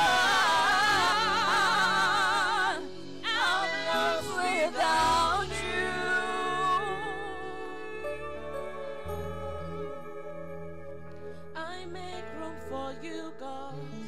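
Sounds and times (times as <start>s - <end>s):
woman singing with vibrato: 0.0s - 9.7s, 11.6s - 14.0s
sustained chords and bass: 0.0s - 14.0s.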